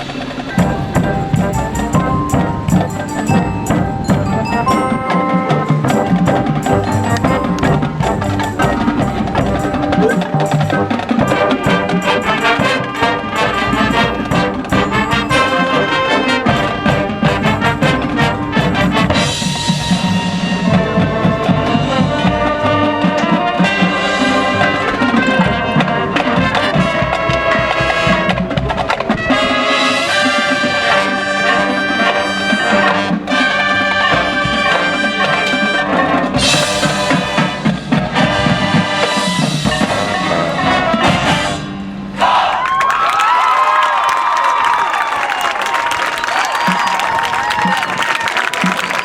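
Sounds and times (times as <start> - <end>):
held brass chords: 0.0 - 42.4
marching band playing: 0.0 - 42.4, 43.2 - 49.0.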